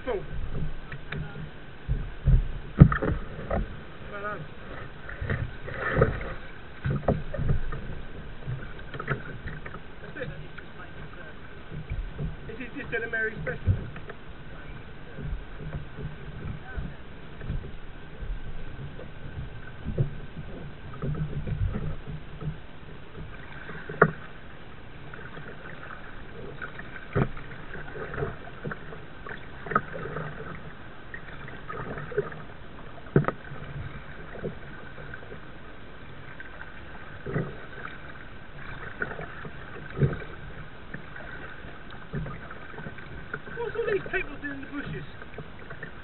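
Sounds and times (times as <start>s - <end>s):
paddle splashing in water: 0.0s - 46.0s.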